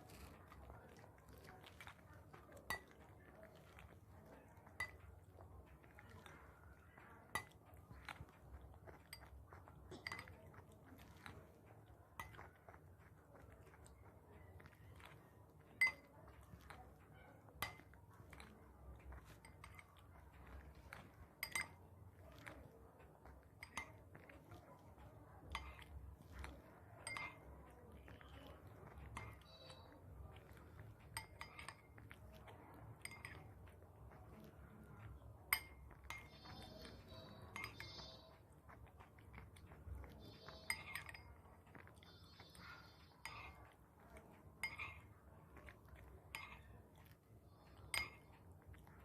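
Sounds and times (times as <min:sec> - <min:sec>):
faint chewing: 0:00.0 - 0:49.0.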